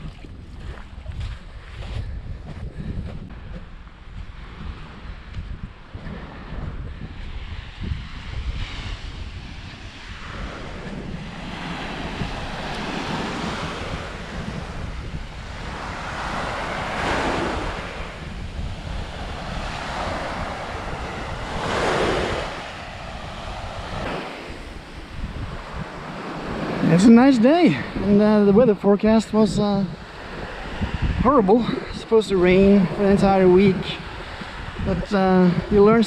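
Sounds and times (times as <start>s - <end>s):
wind buffeting microphone: 0.0s - 36.0s
small waves breaking on beach: 4.0s - 36.0s.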